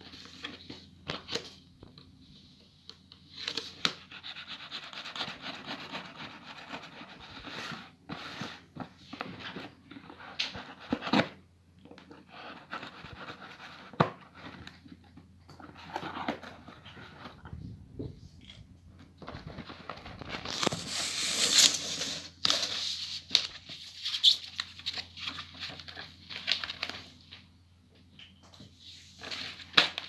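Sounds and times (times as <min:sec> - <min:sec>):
cardboard and paper rustling: 0:03.2 - 0:18.2, 0:19.0 - 0:27.4, 0:28.6 - 0:30.0.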